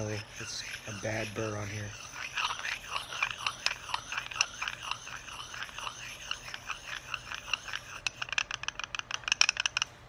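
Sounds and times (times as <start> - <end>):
sharpening stone scraping metal: 0.0 - 9.7.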